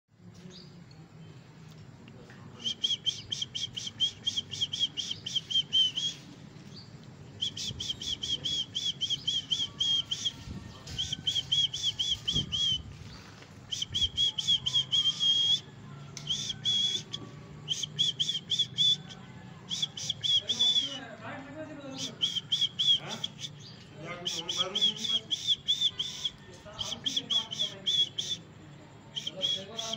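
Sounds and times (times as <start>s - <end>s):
whistle chirping: 2.6s - 6.4s, 7.4s - 13.1s, 13.7s - 21.1s, 21.8s - 28.5s, 29.1s - 29.9s.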